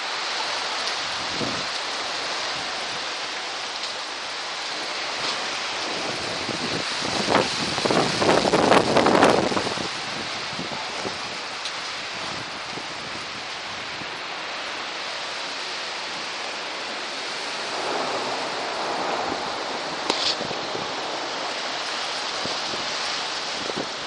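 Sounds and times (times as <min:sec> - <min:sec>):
hail and rain pelting roofs: 0:00.0 - 0:24.0.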